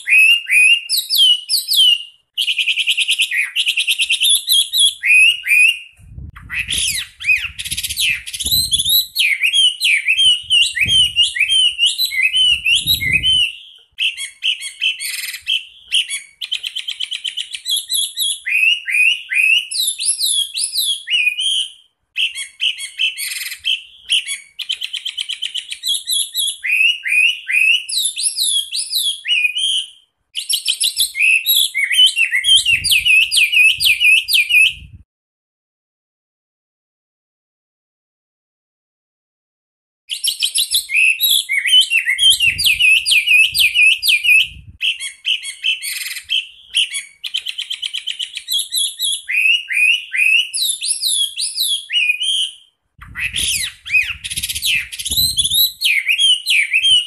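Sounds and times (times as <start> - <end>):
bird singing whistles and trills: 0.0 - 35.0, 40.1 - 57.0.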